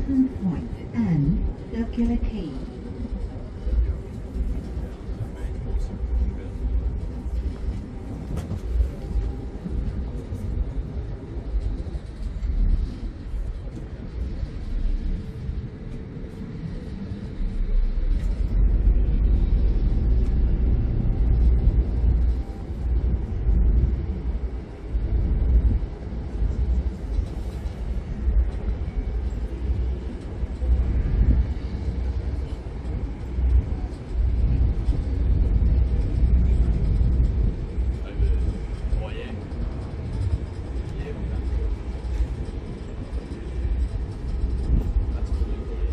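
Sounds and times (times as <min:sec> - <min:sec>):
ferry engine rumble: 0:00.0 - 0:45.9
wind: 0:00.0 - 0:45.9.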